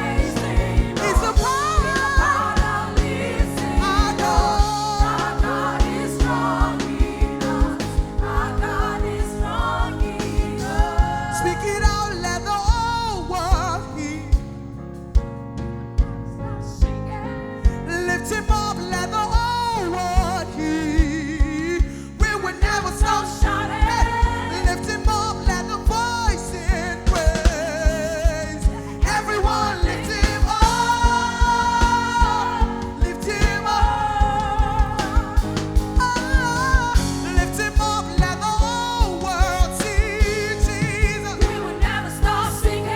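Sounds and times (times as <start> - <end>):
steady drum beat: 0.0 - 14.5, 21.0 - 42.9
gospel band playing: 0.0 - 42.9
keyboard: 0.0 - 42.9.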